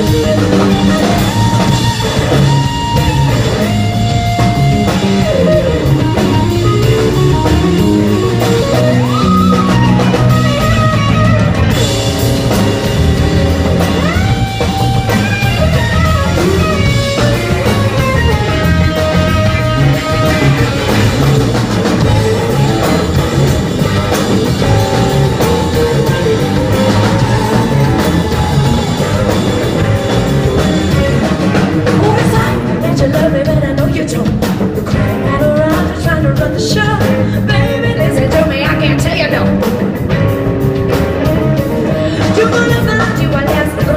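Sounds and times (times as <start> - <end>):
bass guitar: 0.0 - 43.9
drum kit: 0.0 - 43.9
electric guitar lines: 0.0 - 43.9.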